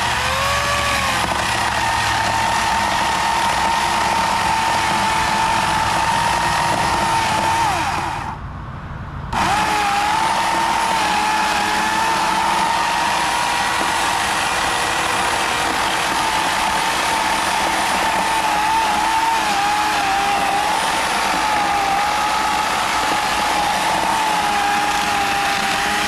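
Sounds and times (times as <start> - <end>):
engine running with high whine: 0.0 - 26.0.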